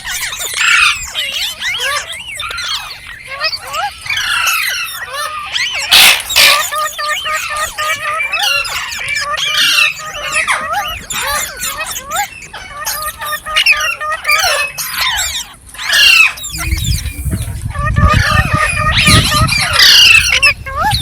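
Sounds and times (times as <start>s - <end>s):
parrot squawks: 0.0s - 21.0s
parrots chattering: 0.0s - 21.0s.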